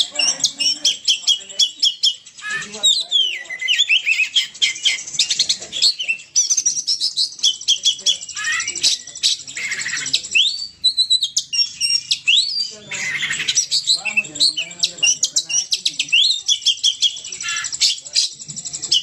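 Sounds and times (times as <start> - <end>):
bird singing whistled song: 0.0 - 19.0.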